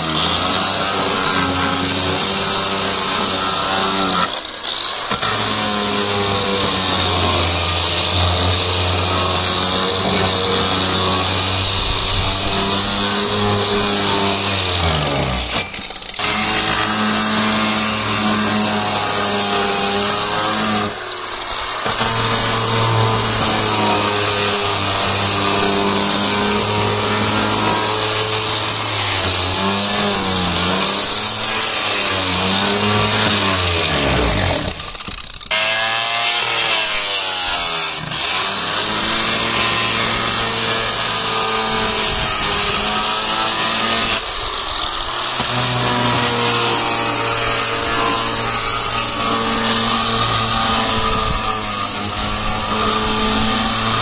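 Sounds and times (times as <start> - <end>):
angle grinder sanding wood: 0.0 - 54.0.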